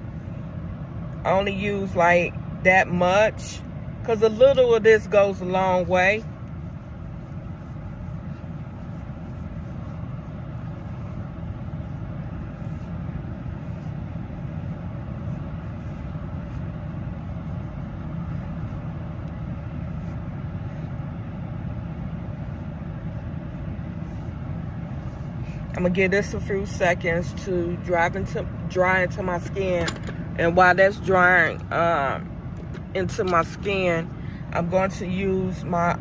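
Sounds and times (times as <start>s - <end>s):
low vehicle rumble: 0.0s - 36.0s.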